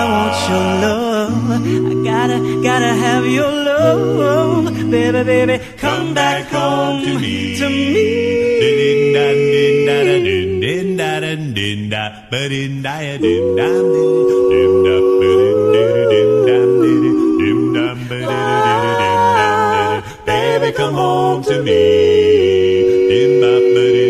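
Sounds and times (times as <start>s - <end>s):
vocal group singing harmony: 0.0s - 24.0s.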